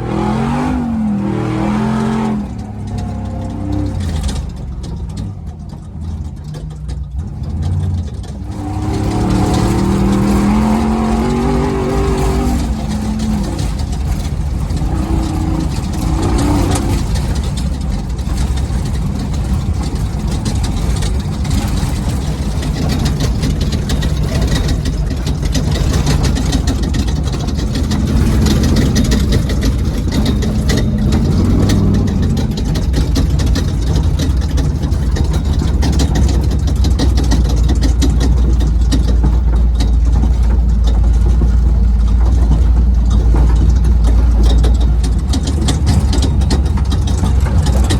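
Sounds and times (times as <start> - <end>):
rattling and knocking: 0.0 - 47.9
truck engine running: 0.0 - 47.9.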